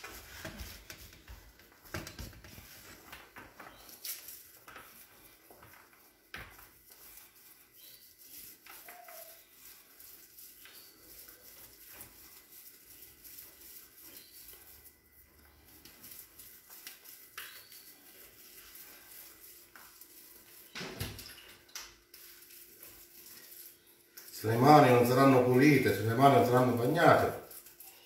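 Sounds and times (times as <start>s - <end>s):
wet hands patting rice: 0.0s - 27.8s.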